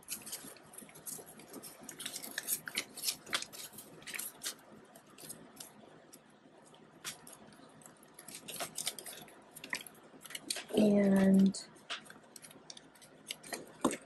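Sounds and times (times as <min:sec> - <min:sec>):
banknotes rustling and flicking: 0:00.0 - 0:14.0.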